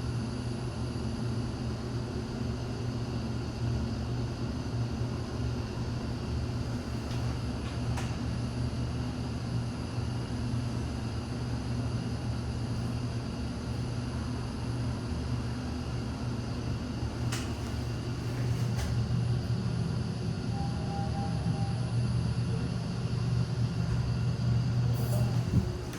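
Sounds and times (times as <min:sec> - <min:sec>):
elevator humming and rumbling: 0:00.0 - 0:25.9.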